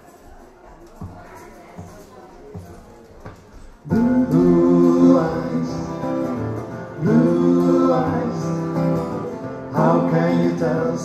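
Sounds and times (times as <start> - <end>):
band with acoustic guitar: 0.0 - 11.0.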